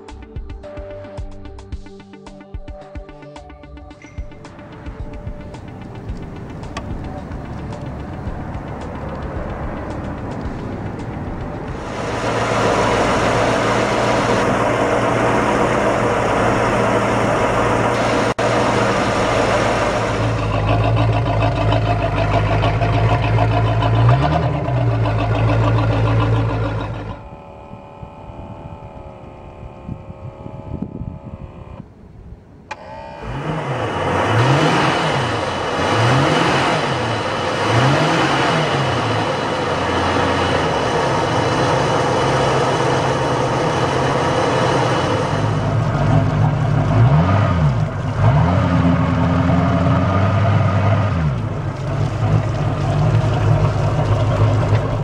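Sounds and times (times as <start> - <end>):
boat engine revving: 4.0 - 55.0.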